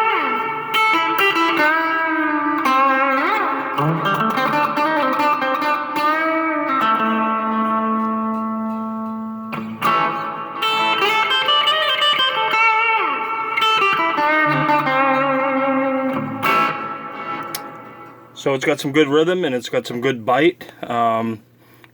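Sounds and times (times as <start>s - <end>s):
clean electric guitar playing: 0.0s - 18.9s.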